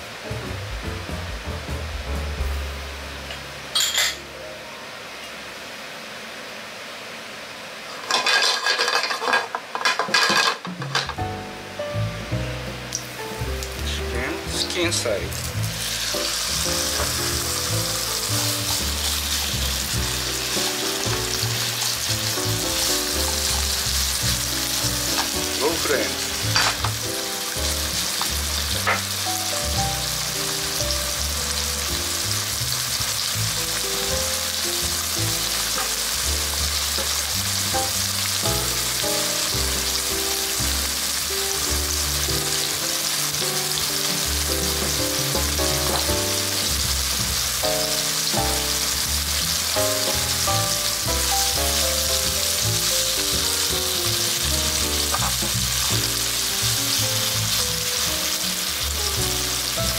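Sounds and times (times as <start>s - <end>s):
background music: 0.1s - 3.6s, 10.9s - 59.9s
chicken frying in oil: 7.5s - 11.2s, 12.9s - 59.9s.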